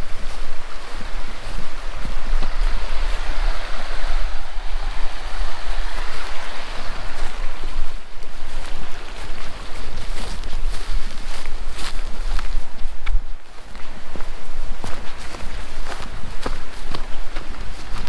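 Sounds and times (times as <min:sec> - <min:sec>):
river water rushing: 0:00.0 - 0:18.0
wind buffeting microphone: 0:00.0 - 0:18.0.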